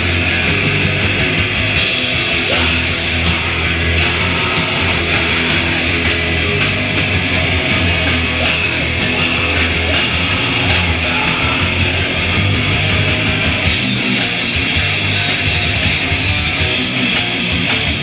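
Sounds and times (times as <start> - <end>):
heavy rock band playing: 0.0 - 18.0.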